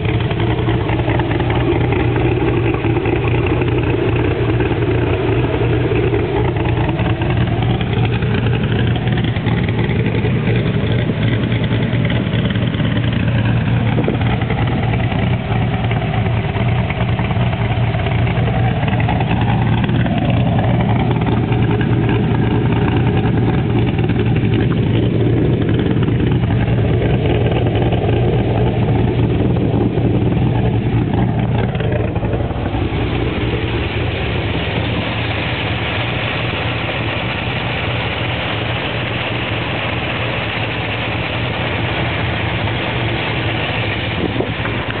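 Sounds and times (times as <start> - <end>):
car engine idling: 0.0 - 45.0
wind and road rush: 0.0 - 45.0.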